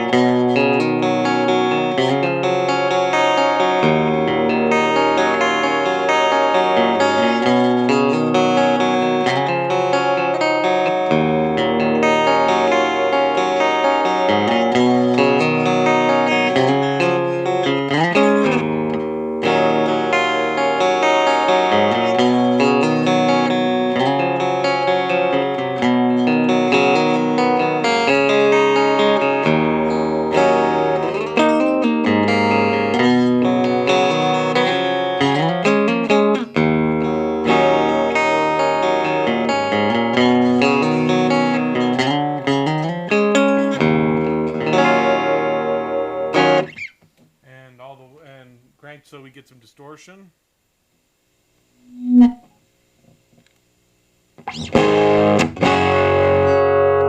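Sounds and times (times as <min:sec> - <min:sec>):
clean electric guitar chords: 0:00.0 - 0:46.8, 0:51.8 - 0:52.6, 0:54.4 - 0:57.0.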